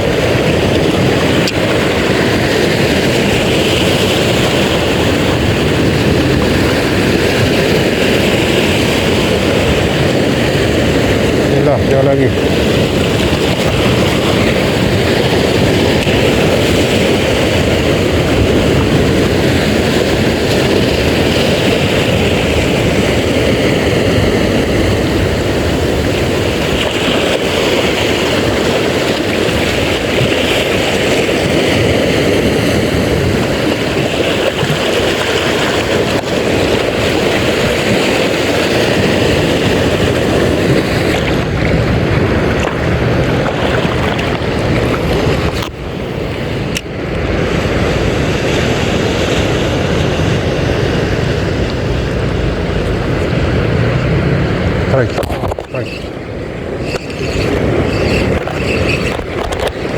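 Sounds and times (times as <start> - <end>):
sea waves: 0.0 - 59.9
wind on microphone: 0.0 - 59.9.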